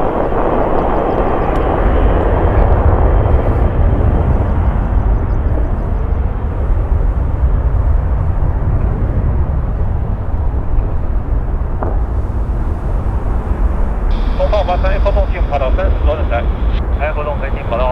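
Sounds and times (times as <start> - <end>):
jet engines rumbling: 0.0 - 17.9.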